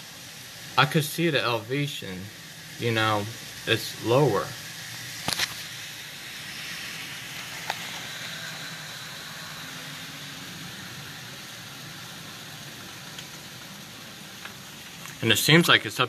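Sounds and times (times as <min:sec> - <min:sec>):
heavy rain through window: 0:00.0 - 0:16.0.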